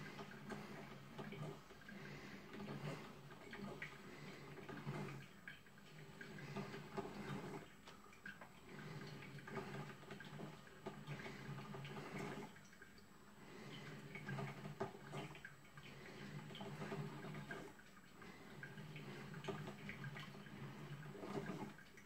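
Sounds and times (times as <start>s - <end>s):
coffee maker gurgling: 0.0s - 22.0s.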